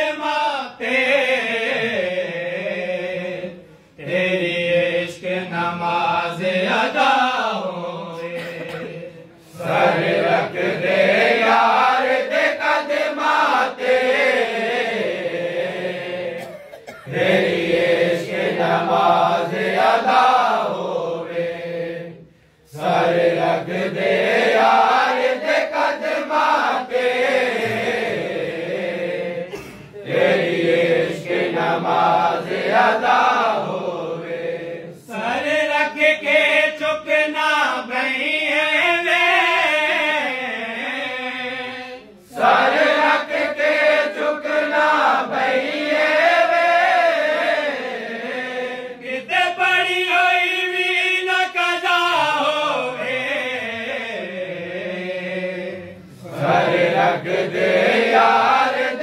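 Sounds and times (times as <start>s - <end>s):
men chanting together: 0.0s - 59.0s.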